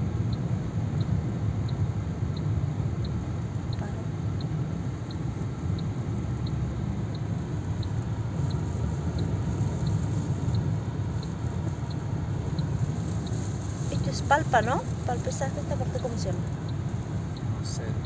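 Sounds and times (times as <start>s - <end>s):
low rumble of car: 0.0s - 18.0s
faint regular tick: 1.0s - 17.5s.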